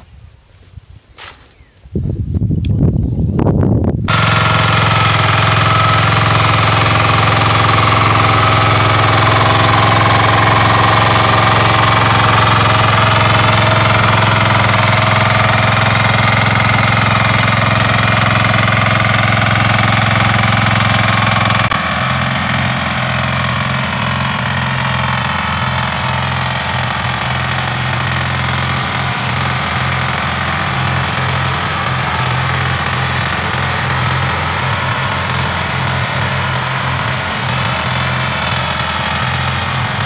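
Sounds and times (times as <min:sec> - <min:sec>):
rotary tiller engine running: 0:04.1 - 0:40.0
tines churning soil: 0:04.1 - 0:40.0.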